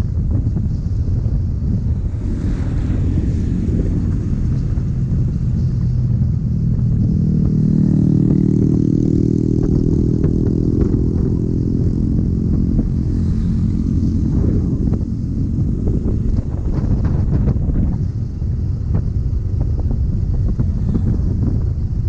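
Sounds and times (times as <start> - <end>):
motorcycle engine running: 0.0 - 22.0
wind rumble on microphone: 0.0 - 22.0.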